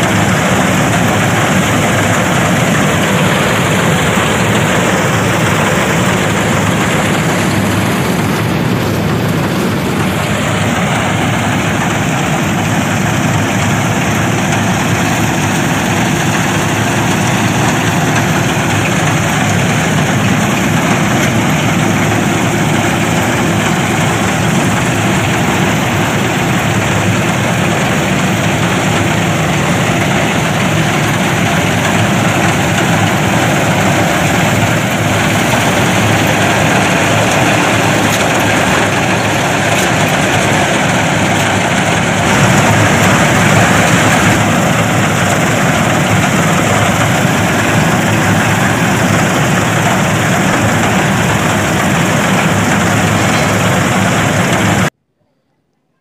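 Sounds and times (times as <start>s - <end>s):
loud machine drone: 0.0s - 55.0s.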